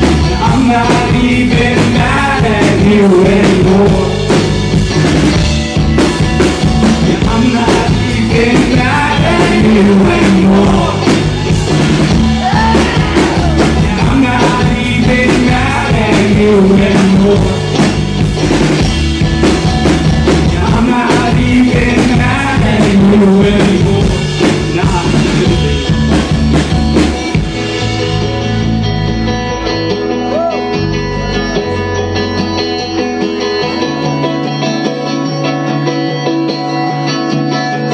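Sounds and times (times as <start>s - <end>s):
drum kit: 0.0s - 37.9s
guitar: 0.0s - 37.9s.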